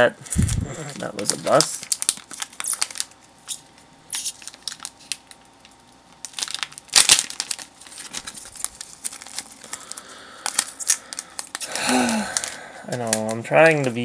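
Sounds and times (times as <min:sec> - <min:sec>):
foil wrapper crinkling: 0:00.2 - 0:14.0.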